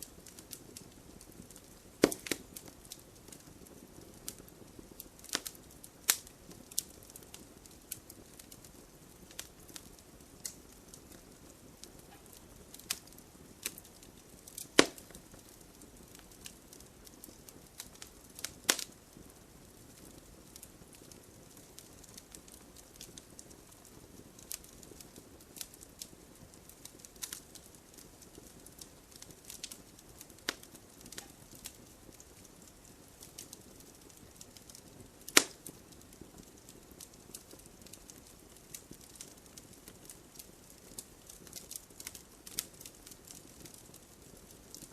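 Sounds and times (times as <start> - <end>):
wood fire crackling in fireplace: 0.0 - 44.9.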